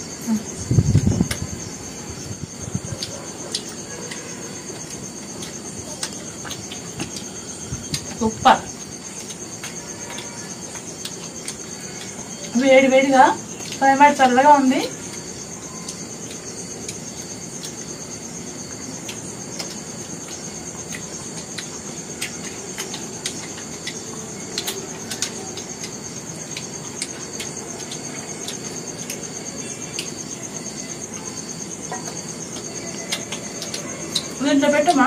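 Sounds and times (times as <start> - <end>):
crickets chirring: 0.0 - 35.0
small chewing clicks: 2.8 - 14.0, 14.9 - 35.0.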